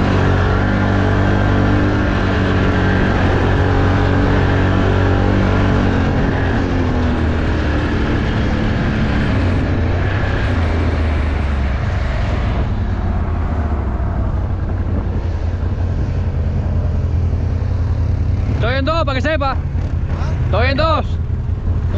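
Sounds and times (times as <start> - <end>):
off-road vehicle engine running: 0.0 - 21.9.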